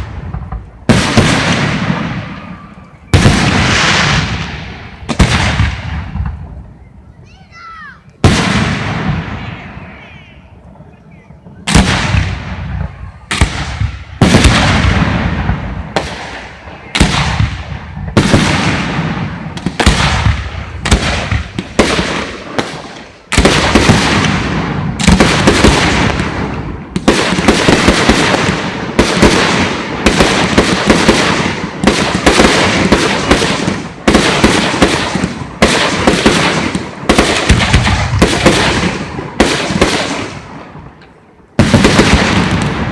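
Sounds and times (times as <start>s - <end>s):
fireworks booming: 0.0s - 6.9s, 8.2s - 42.9s.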